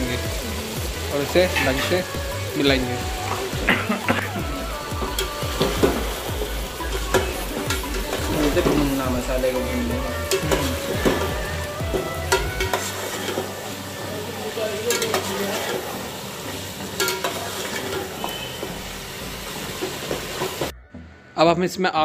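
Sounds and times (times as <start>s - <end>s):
meat sizzling in oil: 0.0s - 20.7s.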